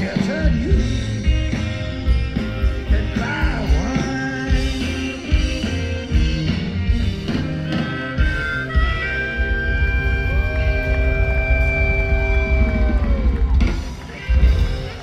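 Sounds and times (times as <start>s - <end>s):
bending lead guitar line: 0.0s - 15.0s
drums and bass beat: 0.0s - 15.0s
live blues-rock band: 0.0s - 15.0s.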